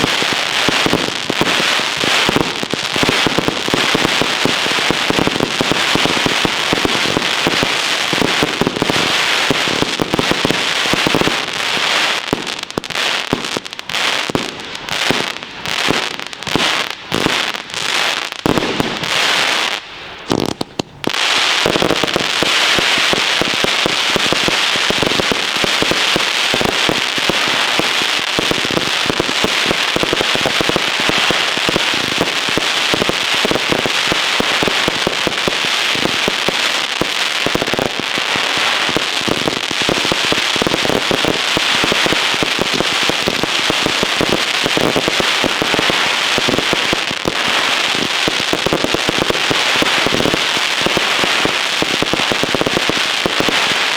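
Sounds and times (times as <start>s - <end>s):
fireworks crackling and popping: 0.0s - 53.9s.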